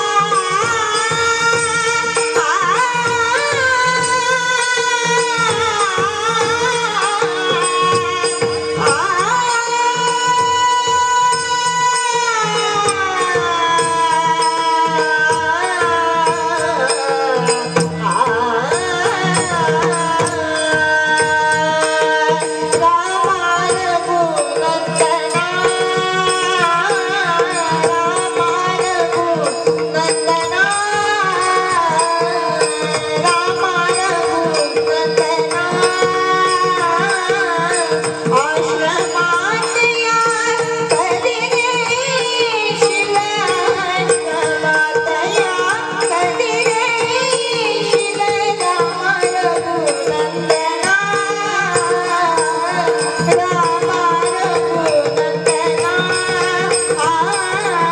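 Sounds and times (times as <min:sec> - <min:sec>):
girl singing devotional song: 0:00.0 - 0:57.9
tabla: 0:00.0 - 0:57.9.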